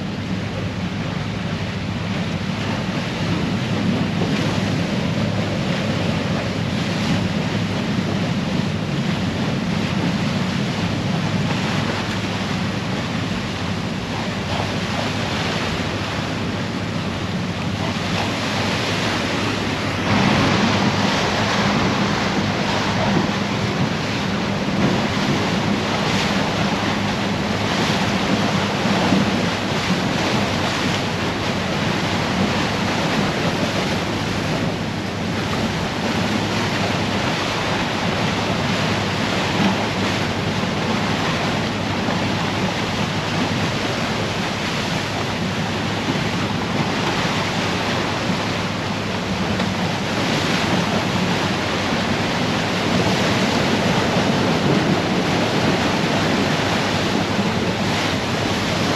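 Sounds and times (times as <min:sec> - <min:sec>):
low engine hum: 0:00.0 - 0:58.9
rushing water: 0:00.0 - 0:58.9
wind: 0:00.0 - 0:58.9.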